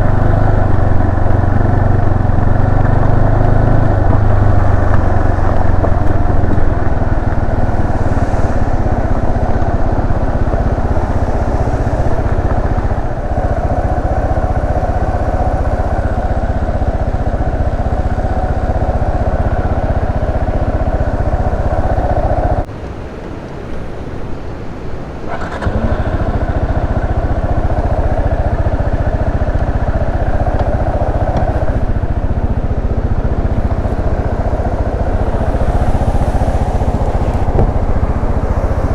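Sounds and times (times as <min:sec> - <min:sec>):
motorcycle engine running: 0:00.0 - 0:22.7, 0:25.3 - 0:38.9.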